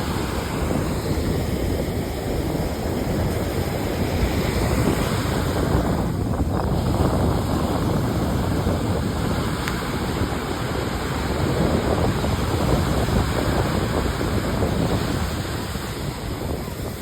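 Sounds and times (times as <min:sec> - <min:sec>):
ocean surf washing in: 0:00.0 - 0:17.0
wind buffeting microphone: 0:00.0 - 0:17.0.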